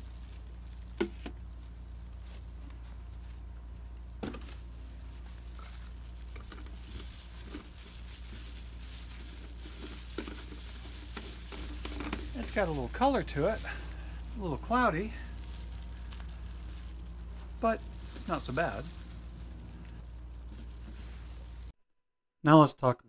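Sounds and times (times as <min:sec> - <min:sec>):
steady low hum: 0:00.0 - 0:21.7
plastic glove crinkling: 0:00.0 - 0:21.8.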